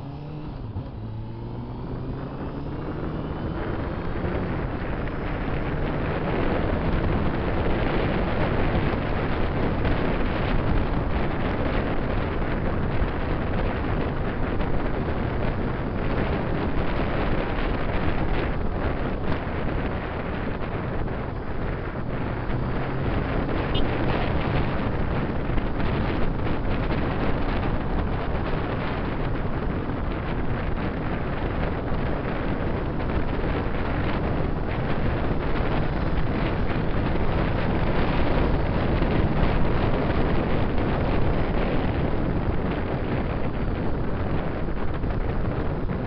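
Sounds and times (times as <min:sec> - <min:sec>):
motorcycle engine: 0:00.0 - 0:46.0
road noise: 0:00.0 - 0:46.0
wind rushing over microphone: 0:00.0 - 0:46.0.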